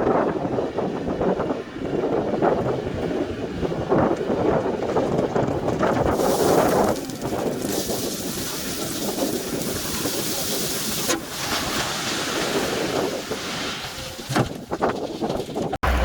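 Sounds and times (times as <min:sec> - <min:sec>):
wind rush on microphone: 0:00.0 - 0:15.8.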